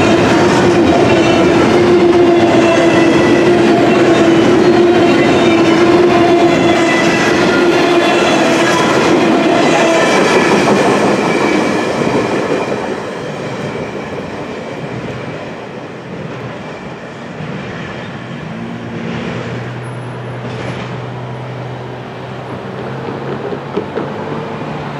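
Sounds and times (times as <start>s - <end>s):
train wheel squeal: 0.0s - 21.0s.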